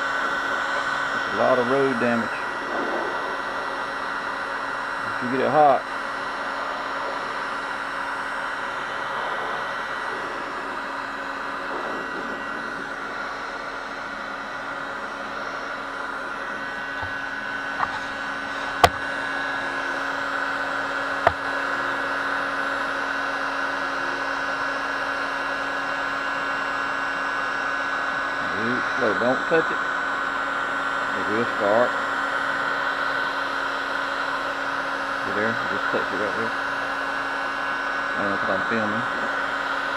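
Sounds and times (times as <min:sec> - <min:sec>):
heat gun fan whirring: 0:00.0 - 0:39.9.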